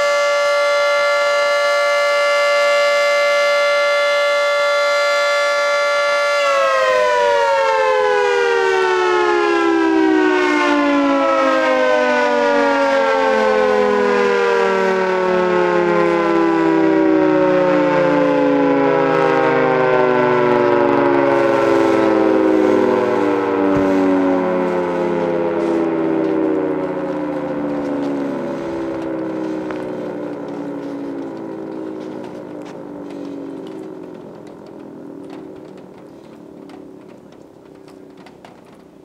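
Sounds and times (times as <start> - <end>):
two-tone mechanical siren: 0.0 - 39.0.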